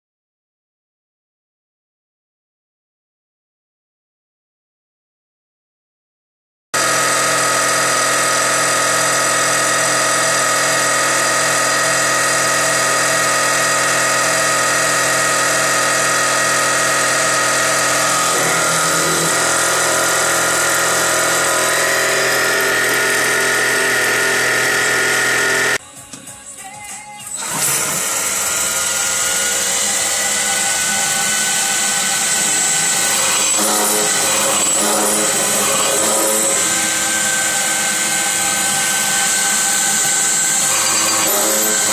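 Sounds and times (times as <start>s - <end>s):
milling machine cutting whine: 6.8s - 25.8s, 27.3s - 41.9s.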